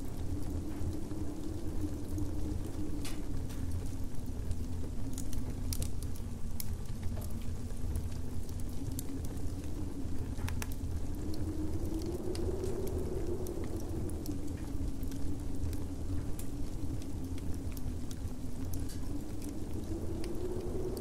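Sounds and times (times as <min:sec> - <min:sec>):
low wind rumble and howl: 0:00.0 - 0:21.0
wood fire crackling: 0:00.0 - 0:21.0.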